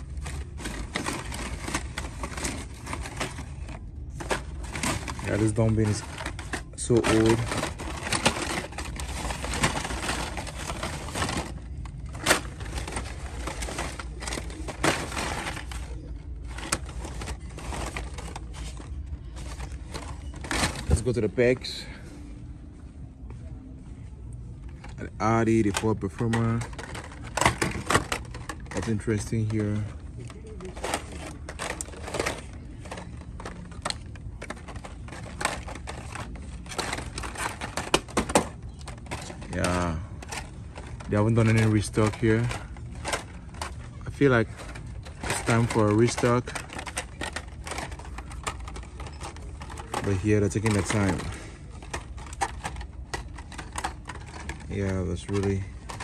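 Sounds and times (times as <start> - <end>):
cards clacking together: 0.0 - 21.2, 24.7 - 56.0
plastic packaging crinkles: 0.0 - 22.0, 24.7 - 56.0
cardboard and plastic rustling: 0.0 - 22.4, 23.3 - 56.0
low steady hum: 0.0 - 56.0.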